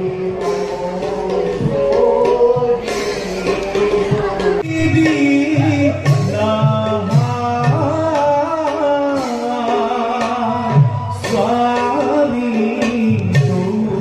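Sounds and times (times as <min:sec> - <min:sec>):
drum strokes: 0:00.0 - 0:14.0
person singing: 0:00.0 - 0:14.0.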